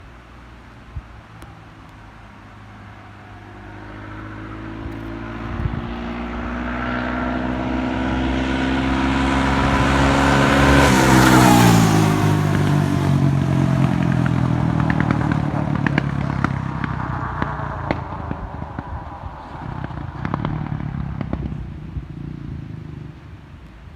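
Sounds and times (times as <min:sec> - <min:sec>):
engine crackles: 0:00.0 - 0:23.9
atv engine passing by: 0:02.6 - 0:23.6.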